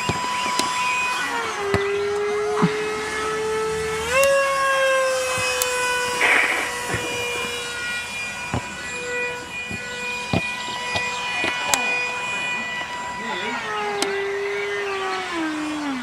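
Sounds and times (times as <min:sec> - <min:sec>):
model plane motor whine: 0:00.0 - 0:16.0.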